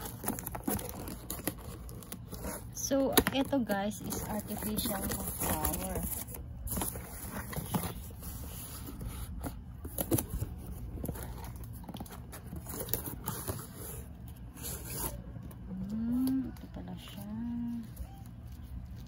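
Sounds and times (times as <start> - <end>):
cardboard scraping and rustling: 0.0 - 15.6.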